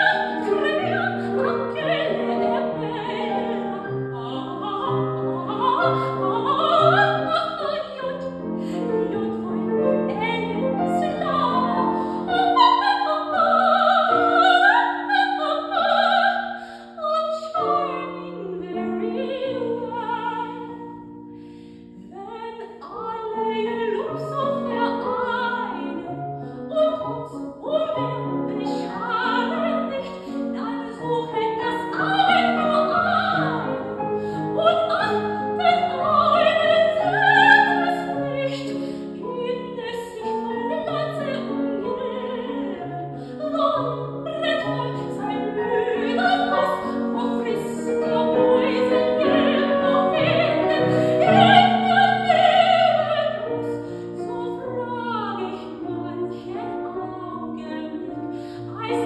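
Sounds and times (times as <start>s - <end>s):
soprano singing opera: 0.0s - 21.1s, 22.0s - 59.0s
piano accompaniment: 0.0s - 59.0s.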